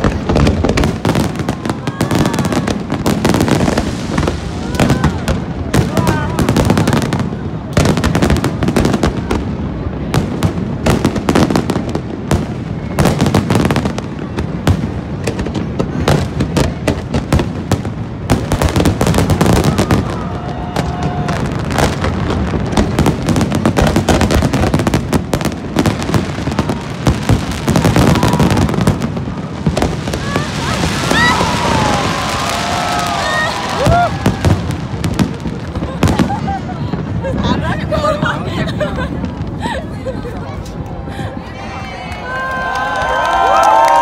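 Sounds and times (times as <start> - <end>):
fireworks bursting: 0.0 - 41.4.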